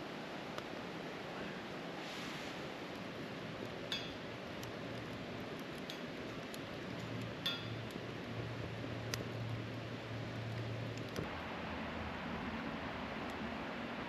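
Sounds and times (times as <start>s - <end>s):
steady hiss: 0.0s - 14.0s
wood fire crackling: 0.2s - 14.0s.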